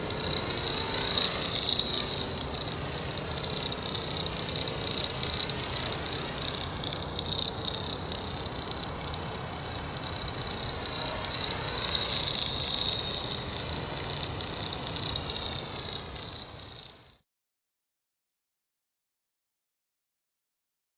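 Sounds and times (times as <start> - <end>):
model helicopter whine: 0.0 - 17.2
rotor noise: 0.0 - 17.2.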